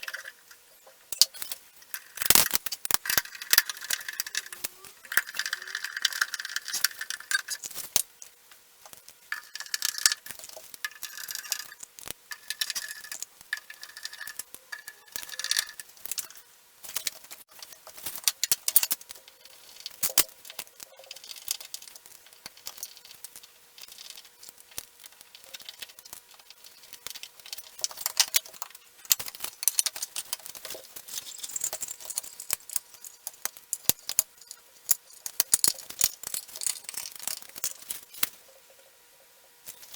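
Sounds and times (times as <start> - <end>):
desk parts clicking and rattling: 0.0 - 8.3, 8.9 - 38.4.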